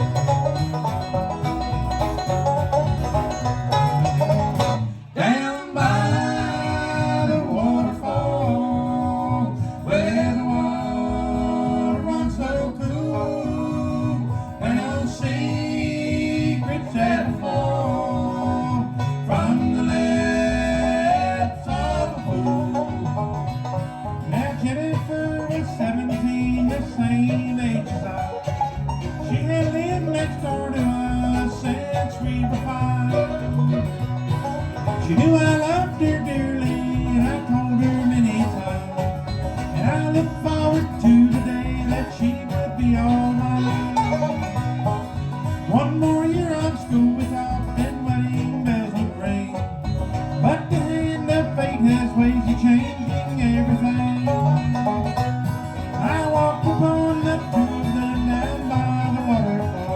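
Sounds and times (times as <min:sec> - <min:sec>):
banjo: 0:00.0 - 0:59.9
bluegrass band playing: 0:00.0 - 0:59.9
guitar: 0:00.0 - 0:59.9.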